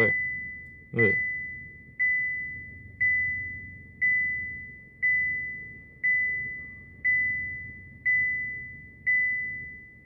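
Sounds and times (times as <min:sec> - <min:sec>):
electronic chime dinging: 0:00.0 - 0:10.0.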